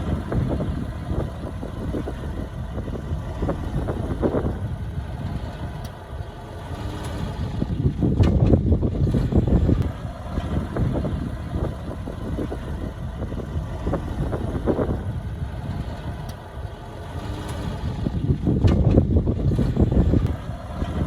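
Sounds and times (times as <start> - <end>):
diesel engine clattering: 0.0 - 21.0.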